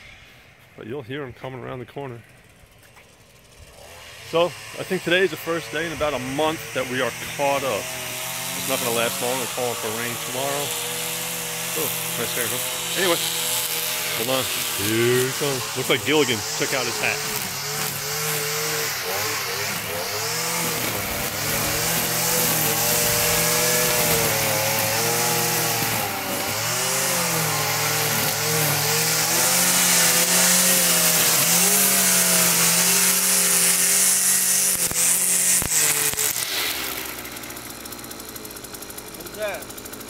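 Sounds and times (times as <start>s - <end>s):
string trimmer running: 2.2s - 40.0s.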